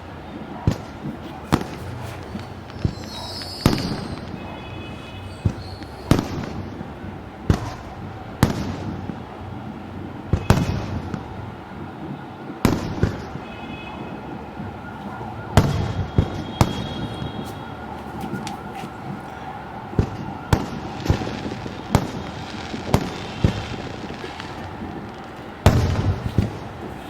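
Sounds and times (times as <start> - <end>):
fireworks booming: 0.0 - 27.0
fireworks crackling: 0.0 - 27.0.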